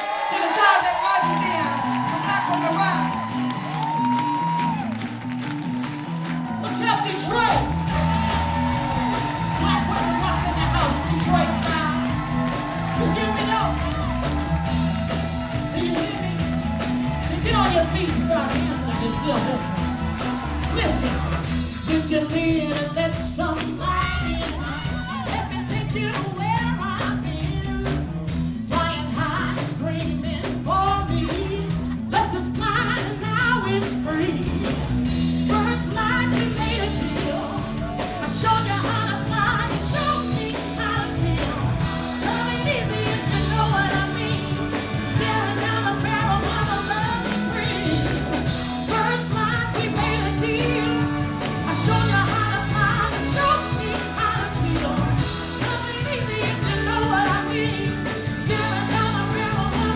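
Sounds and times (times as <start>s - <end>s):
live band playing: 0.0s - 59.9s
woman singing: 6.7s - 19.9s, 20.6s - 59.9s.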